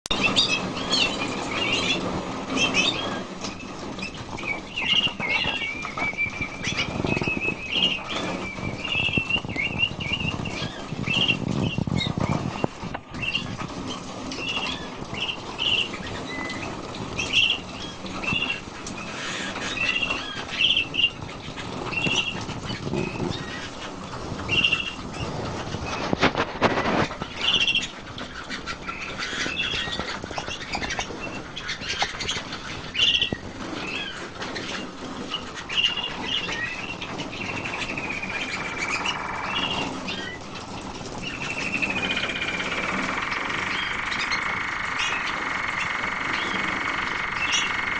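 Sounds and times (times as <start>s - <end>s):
pet birds chirping: 0.1s - 47.9s.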